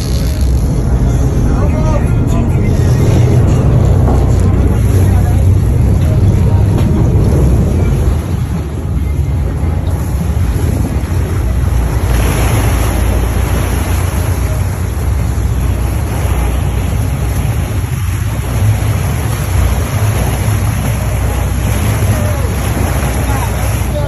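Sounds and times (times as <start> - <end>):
boat engine rumble: 0.0 - 24.0
water rushing from hull: 0.0 - 24.0
wind buffeting microphone: 0.0 - 24.0.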